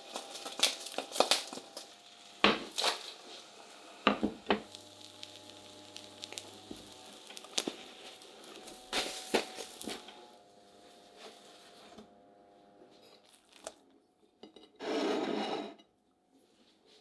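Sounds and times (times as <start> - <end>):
eggs sizzling: 0.0 - 13.9.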